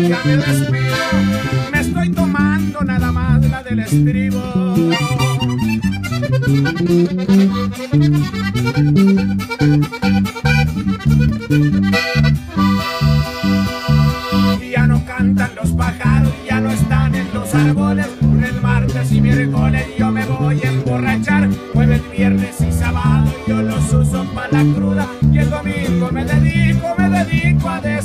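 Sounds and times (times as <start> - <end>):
button accordion melody: 0.0 - 28.0
electric bass line: 0.0 - 28.0
twelve-string acoustic guitar: 0.0 - 28.0.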